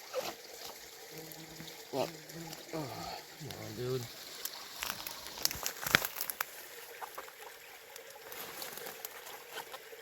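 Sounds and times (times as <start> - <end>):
stream trickling: 0.0 - 10.0.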